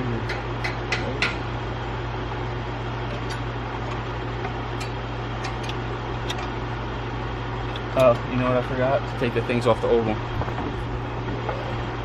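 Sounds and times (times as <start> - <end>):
steady low hum and hiss: 0.0 - 12.0.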